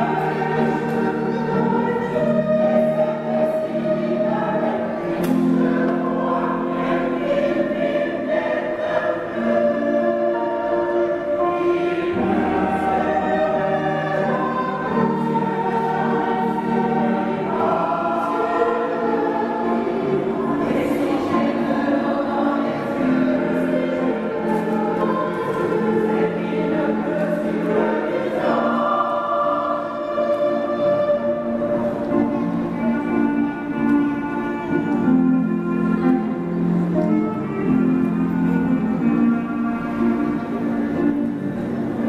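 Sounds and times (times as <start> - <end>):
mixed choir singing in harmony: 0.0 - 42.0.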